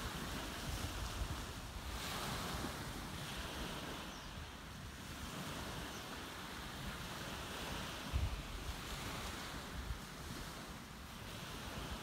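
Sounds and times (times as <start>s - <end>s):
sea waves washing: 0.0s - 12.0s
wind rumbling on microphone: 0.0s - 12.0s.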